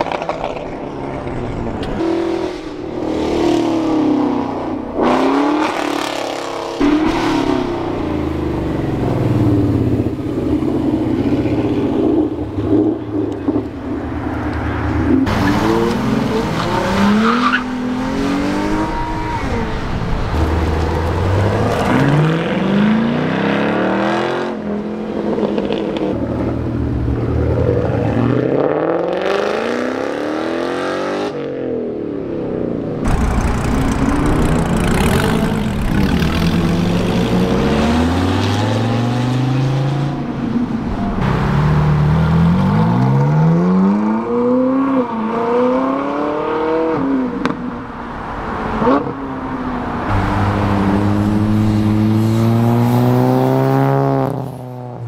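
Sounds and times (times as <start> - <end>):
car engines accelerating hard: 0.0 - 55.0.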